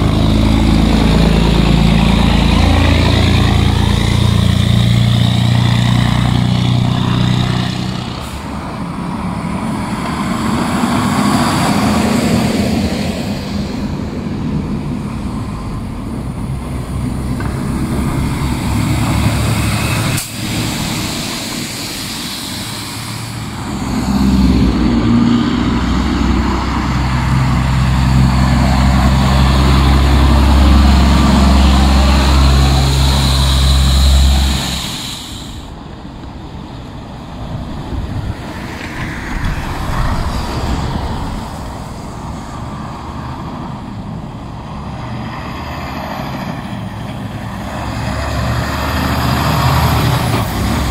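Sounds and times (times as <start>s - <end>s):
diesel truck engines: 0.0s - 50.9s
tyre noise on wet road: 0.0s - 50.9s.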